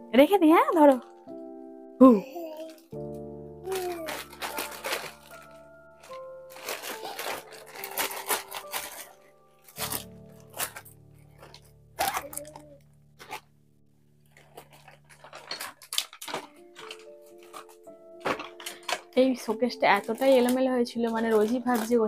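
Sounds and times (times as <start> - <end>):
background music with held notes: 0.0 - 22.0
plastic packaging crinkling: 0.6 - 1.5, 2.4 - 22.0.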